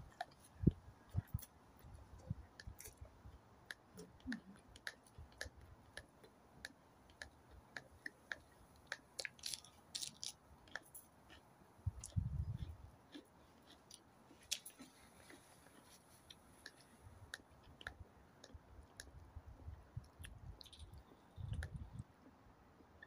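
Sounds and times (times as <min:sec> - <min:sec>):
person chewing with wet mouth clicks: 0:00.0 - 0:22.4.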